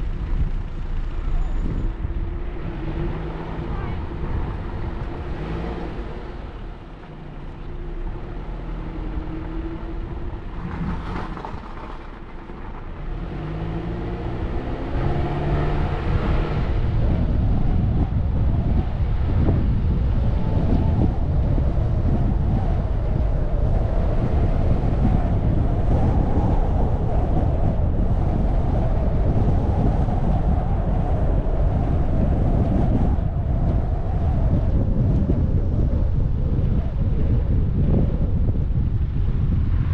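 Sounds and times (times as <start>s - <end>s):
car engine: 0.0s - 36.2s
road and wind noise: 0.0s - 39.9s.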